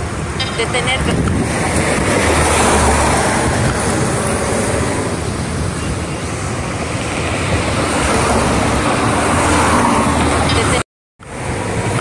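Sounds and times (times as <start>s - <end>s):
car passing: 0.0s - 10.8s
bus passing: 0.0s - 12.0s.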